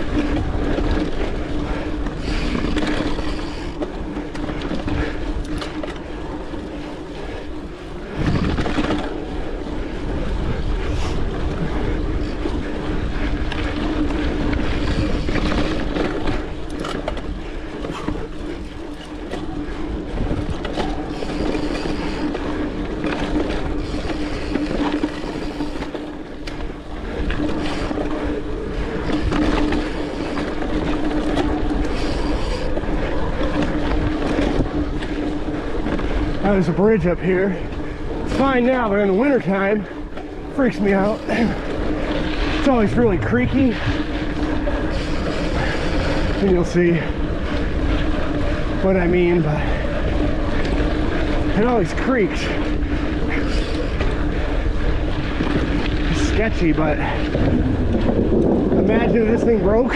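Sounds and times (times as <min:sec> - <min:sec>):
bike rattling and clicking: 0:00.0 - 0:59.9
bike tyres rolling on dirt: 0:00.0 - 0:59.9
steady hum: 0:00.0 - 0:59.9.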